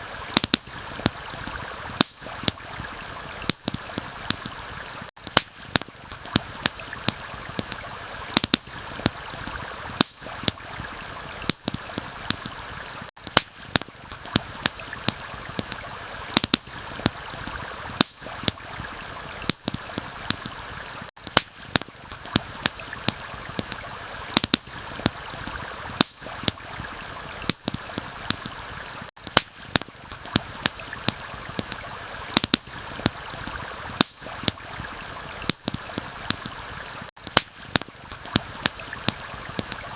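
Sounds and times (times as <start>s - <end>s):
campfire crackling: 0.0s - 39.9s
stream running: 0.0s - 39.9s.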